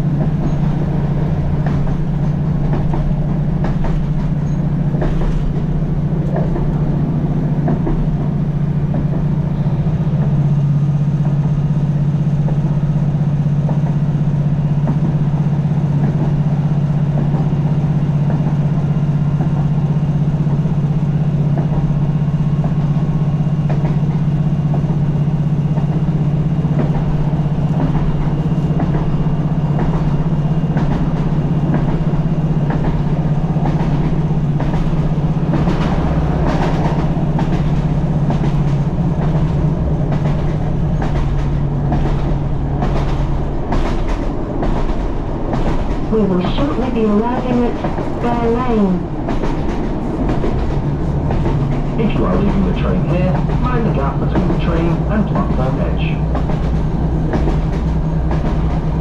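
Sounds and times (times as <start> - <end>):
diesel engine drone: 0.0 - 59.0
train wheels clicking over rails: 0.0 - 59.0.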